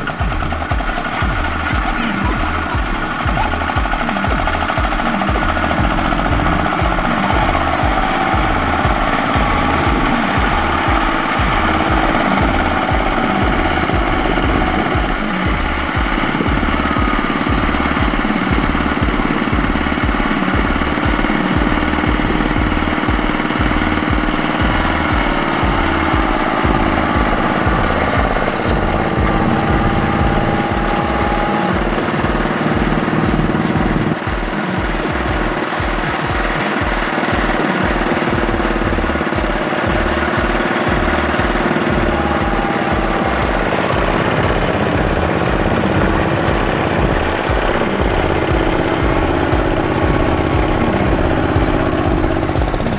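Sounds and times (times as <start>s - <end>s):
diesel engines chugging: 0.0s - 52.9s
low pulsing: 0.0s - 52.9s.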